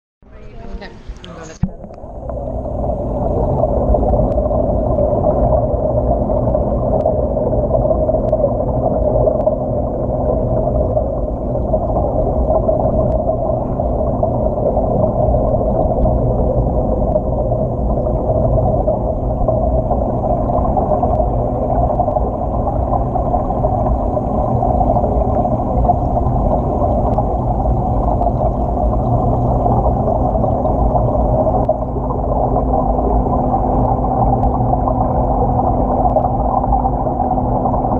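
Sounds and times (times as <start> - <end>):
muffled underwater hum: 0.2 - 37.9
steady low tone: 0.2 - 37.9.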